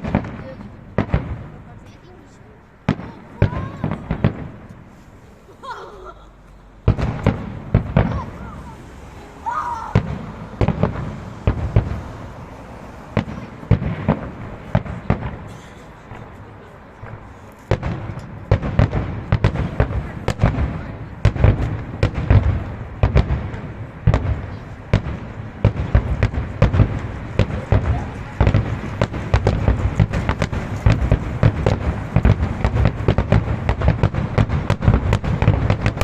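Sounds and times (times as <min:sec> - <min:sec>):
fireworks bursting: 0:00.0 - 0:36.0.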